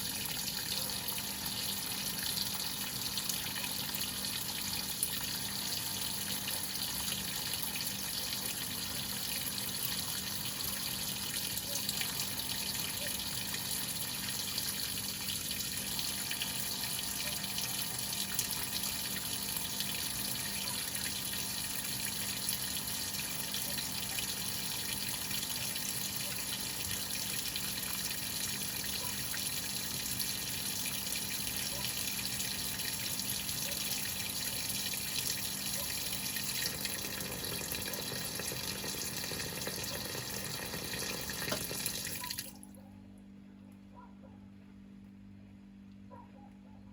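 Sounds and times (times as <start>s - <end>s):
water pouring into washing machine: 0.0s - 42.6s
faint steady hum: 0.0s - 46.9s.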